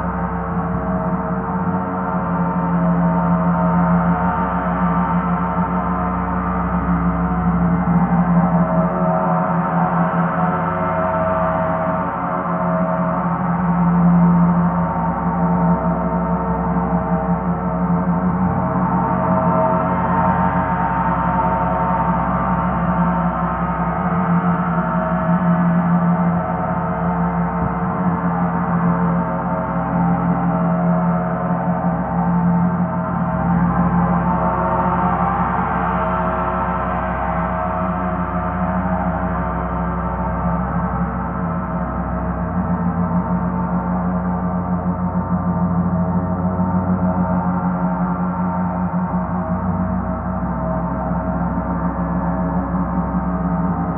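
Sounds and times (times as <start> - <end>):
low hum: 0.0 - 53.9.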